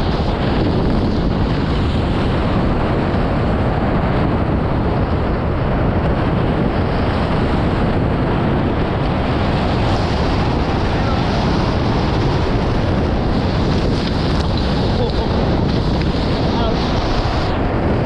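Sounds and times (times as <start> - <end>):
water rushing past hulls: 0.0 - 18.0
wind buffeting microphone: 0.0 - 18.0.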